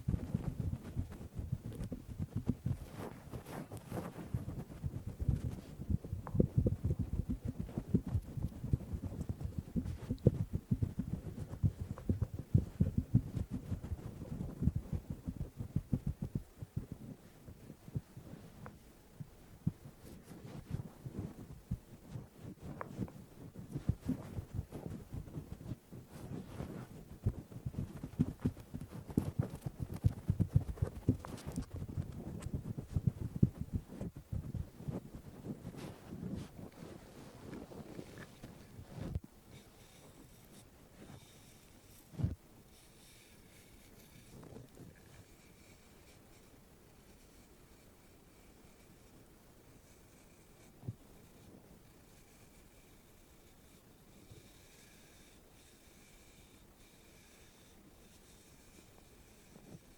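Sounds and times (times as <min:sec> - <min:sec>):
fingers scratching towel on microphone: 0:00.0 - 0:59.9.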